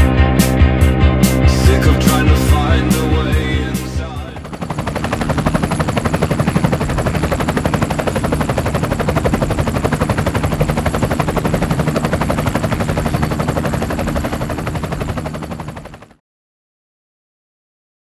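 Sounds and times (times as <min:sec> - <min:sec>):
low engine drone: 0:00.0 - 0:16.1
helicopter rotor chop: 0:01.3 - 0:16.2.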